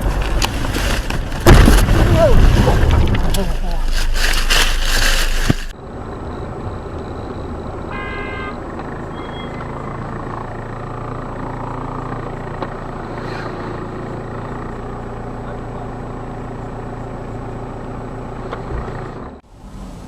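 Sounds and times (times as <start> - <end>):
vehicle engine rumble: 0.0 - 7.9, 8.5 - 20.0.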